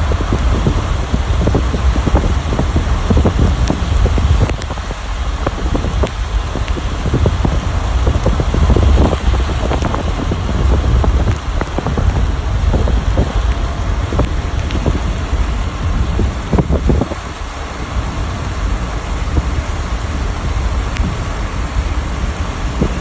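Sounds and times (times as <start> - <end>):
heavy rain pouring: 0.0 - 23.0
raindrops hitting near microphone: 0.0 - 23.0.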